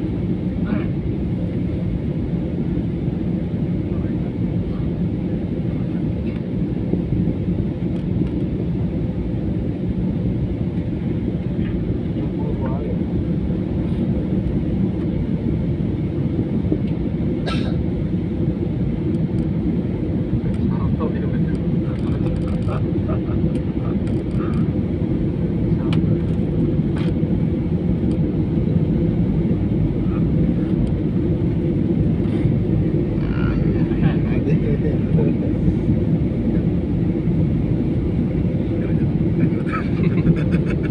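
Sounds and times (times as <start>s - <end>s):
airliner engine rumble in cabin: 0.0s - 40.9s.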